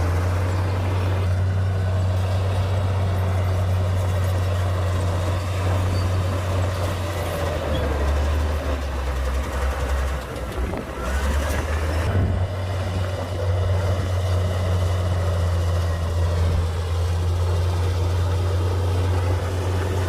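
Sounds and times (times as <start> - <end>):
bulldozer diesel engine droning: 0.0 - 20.0.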